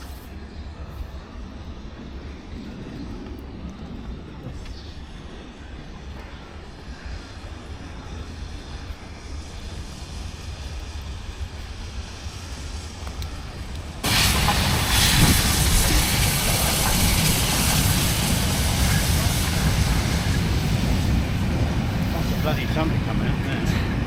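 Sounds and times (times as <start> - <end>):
hiss of steam: 0.0 - 1.4, 4.7 - 24.0.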